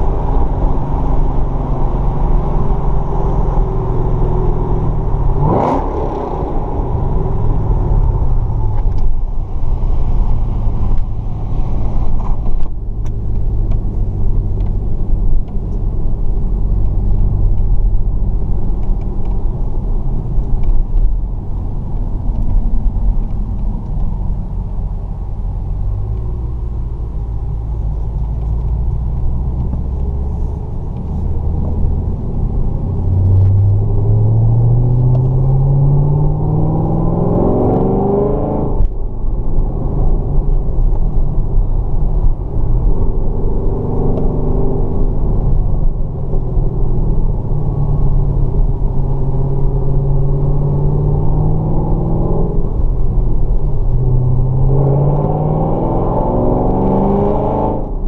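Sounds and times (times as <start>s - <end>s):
car engine cruising: 0.0s - 58.0s
road rumble: 0.0s - 58.0s.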